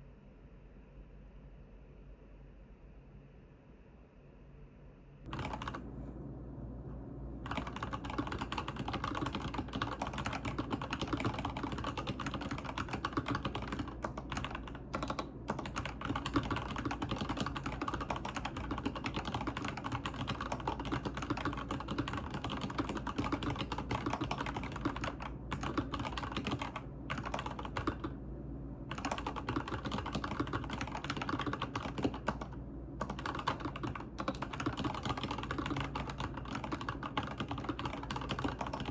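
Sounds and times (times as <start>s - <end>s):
fast typing on keyboard: 5.3s - 5.8s, 7.5s - 28.2s, 28.9s - 38.9s.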